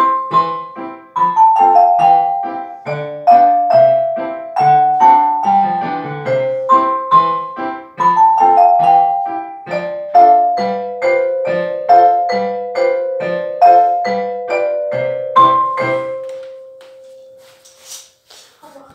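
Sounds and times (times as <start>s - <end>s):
mallet percussion piece: 0.0s - 17.6s
piano accompaniment: 0.0s - 17.9s.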